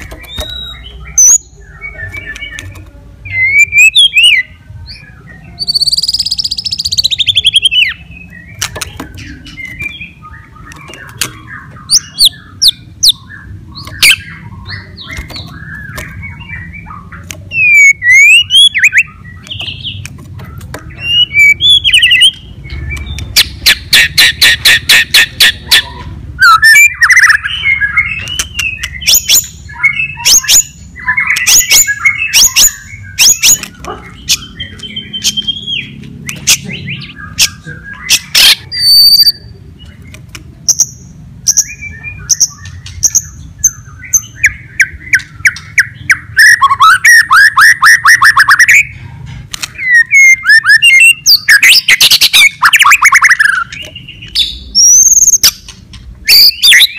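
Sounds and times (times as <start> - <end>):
bird whistled song: 0.0 - 49.0, 49.7 - 56.9.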